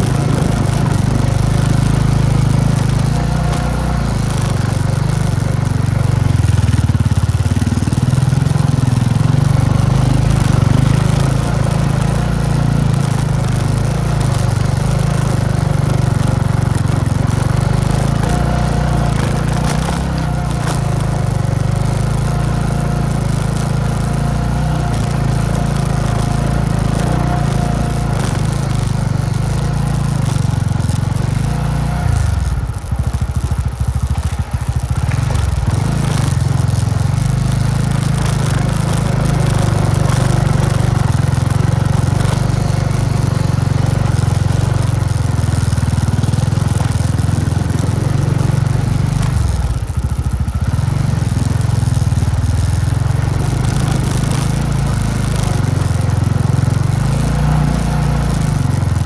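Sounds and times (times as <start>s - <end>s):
motorbike engine running: 0.0s - 59.0s.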